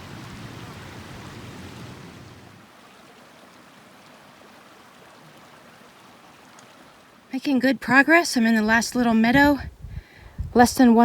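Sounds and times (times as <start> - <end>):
stream water rushing: 0.0 - 9.2.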